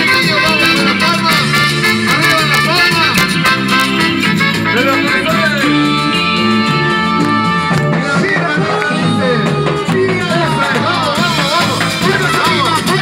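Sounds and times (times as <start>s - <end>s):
live latin band music: 0.0s - 13.0s.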